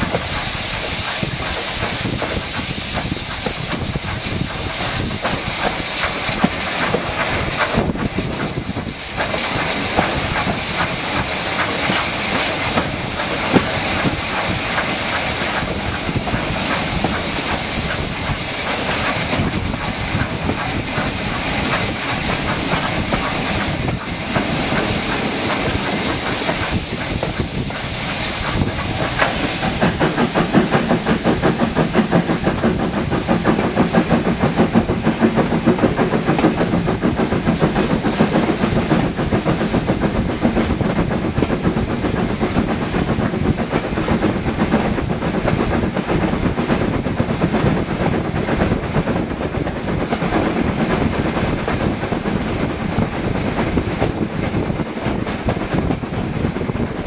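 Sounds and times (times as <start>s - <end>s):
steam locomotive hissing: 0.0s - 57.0s
train wheels running on rails: 0.0s - 57.0s.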